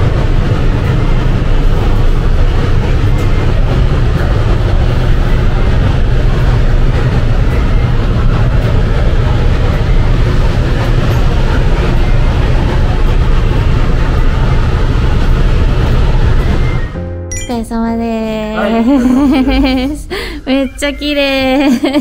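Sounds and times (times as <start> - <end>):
ventilation fans rumbling: 0.0 - 22.0.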